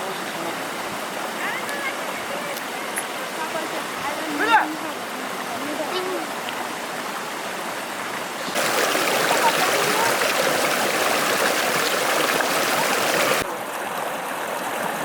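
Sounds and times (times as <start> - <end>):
water rushing in a stream: 0.0 - 15.0.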